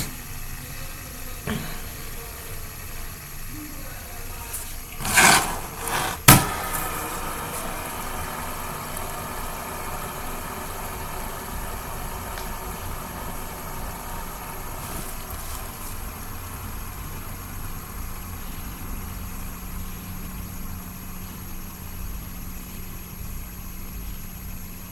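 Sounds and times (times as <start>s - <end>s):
fidget spinner whirring: 0.0s - 24.9s.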